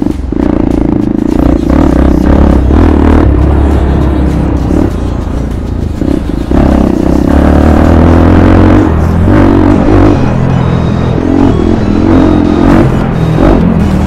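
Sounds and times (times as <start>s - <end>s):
background music: 0.0s - 14.0s
motorcycle engine running: 0.0s - 14.0s.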